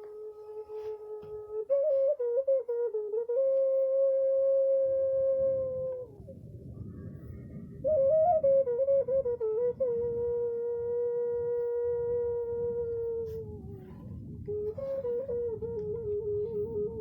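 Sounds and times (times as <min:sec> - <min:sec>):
low rumbling noise: 0:02.2 - 0:17.0.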